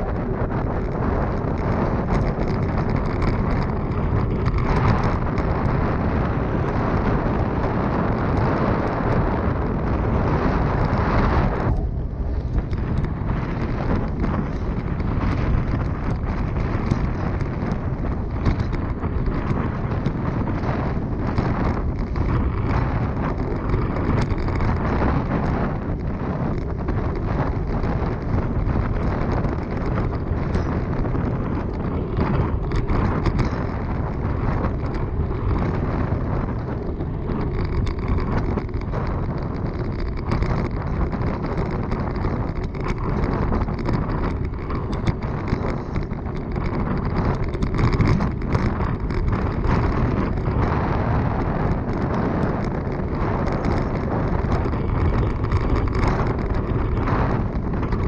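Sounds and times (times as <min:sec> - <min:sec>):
bicycle tyres on pavement: 0:00.0 - 0:58.0
wind buffeting microphone: 0:00.0 - 0:58.0.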